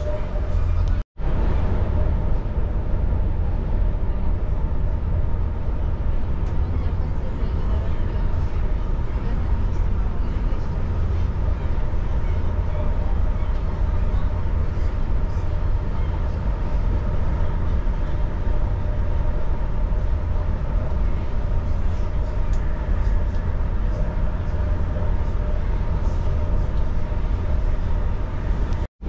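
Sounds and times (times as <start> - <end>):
train running gear rumble: 0.0 - 28.9.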